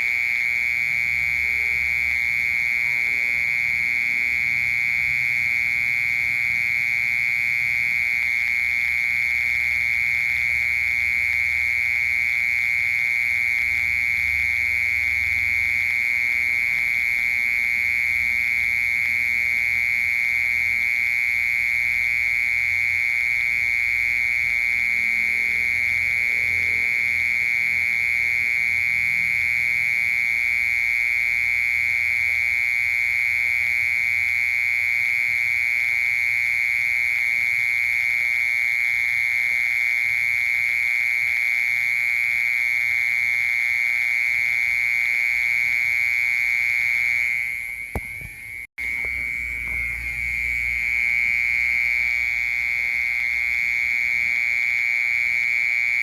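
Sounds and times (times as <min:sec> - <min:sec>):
mole cricket trilling: 0:00.0 - 0:56.0.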